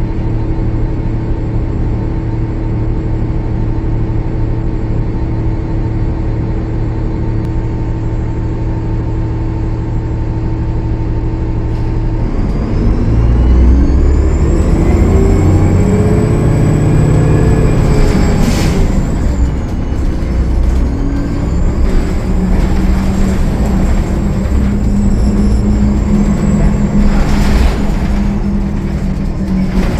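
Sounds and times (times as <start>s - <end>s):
diesel bus engine: 0.0s - 29.9s.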